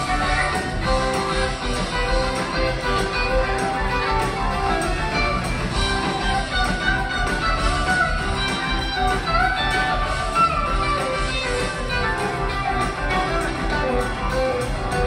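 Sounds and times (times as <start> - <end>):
bass guitar: 0.0 - 15.0
drums: 0.0 - 15.0
electric guitars: 0.0 - 15.0.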